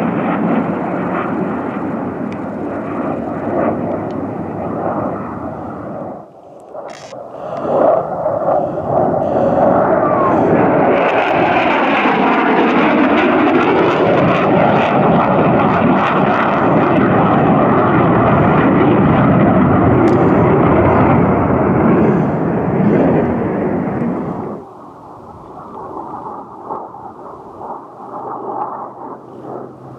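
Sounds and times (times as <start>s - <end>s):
jet engine noise: 0.0s - 29.9s.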